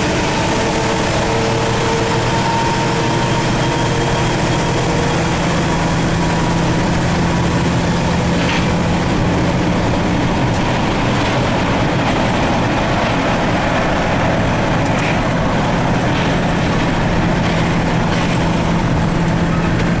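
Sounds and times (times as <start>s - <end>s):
road and wind noise: 0.0s - 20.0s
truck diesel engine drone: 0.0s - 20.0s.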